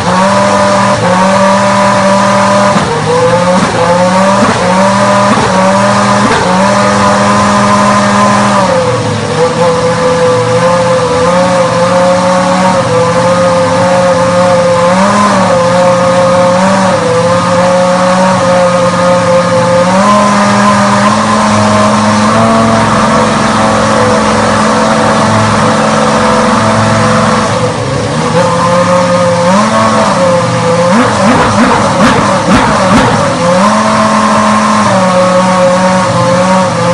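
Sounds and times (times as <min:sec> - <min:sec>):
racing car engine running: 0:00.0 - 0:36.9.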